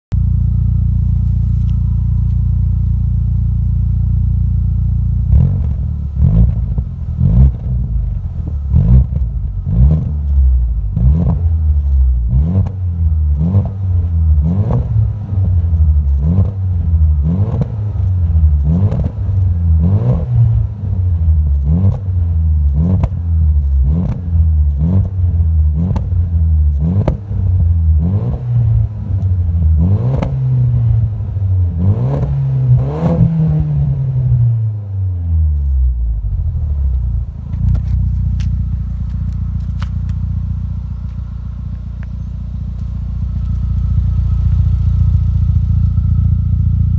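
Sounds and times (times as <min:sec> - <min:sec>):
car engine idling and revving: 0:00.1 - 0:46.9.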